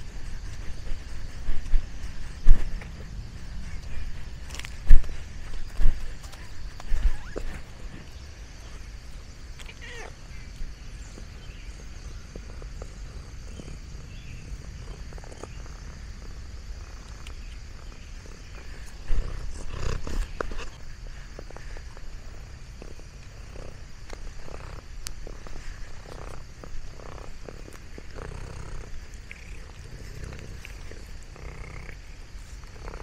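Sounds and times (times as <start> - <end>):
cat purring: 0.0 - 8.8, 11.0 - 33.0.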